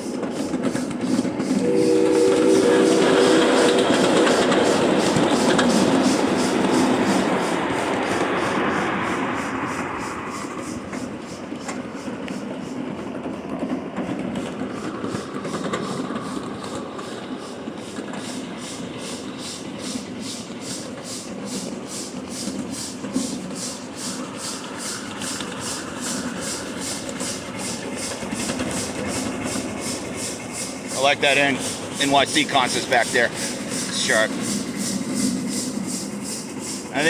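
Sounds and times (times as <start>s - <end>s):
train rumbling on track: 0.0s - 37.0s.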